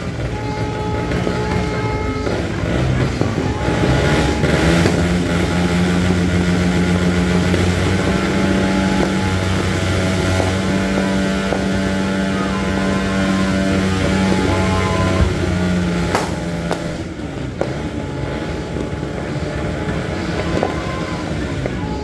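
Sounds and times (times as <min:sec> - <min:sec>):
motorbike engines in traffic: 0:00.0 - 0:22.0.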